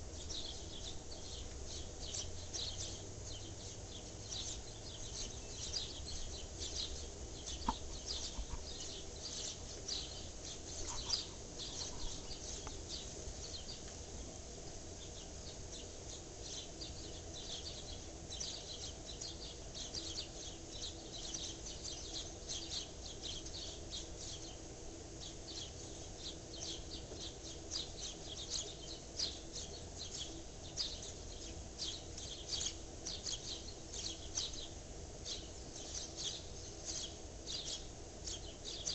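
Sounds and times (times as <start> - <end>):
faint low hum: 0.0 - 38.9
small birds chirping: 0.0 - 38.9.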